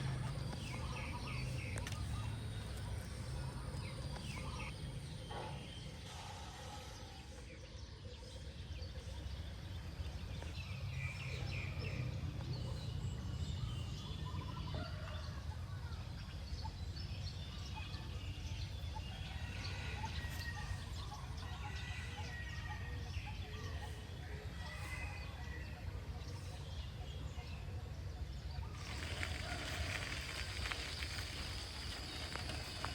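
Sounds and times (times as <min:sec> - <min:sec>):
birds calling and chirping: 0:00.0 - 0:32.9.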